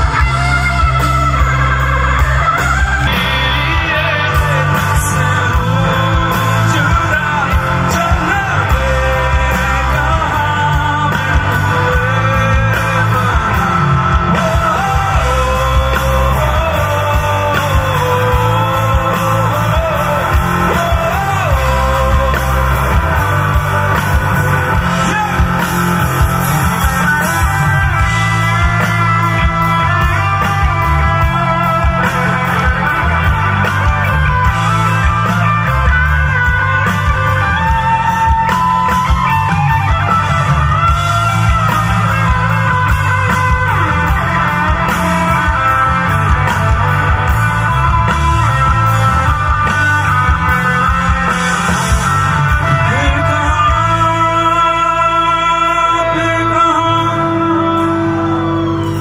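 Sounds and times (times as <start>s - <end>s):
heavy bass: 0.0s - 59.0s
live rock band: 0.0s - 59.0s
person singing: 0.0s - 59.0s.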